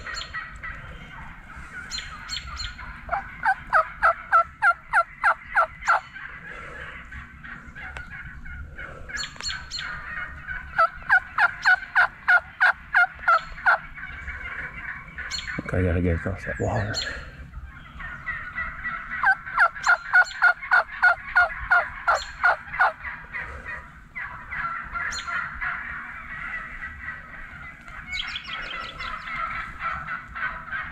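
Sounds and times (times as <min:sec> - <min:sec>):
wild turkey yelping: 0:00.0 - 0:15.8, 0:16.4 - 0:30.9.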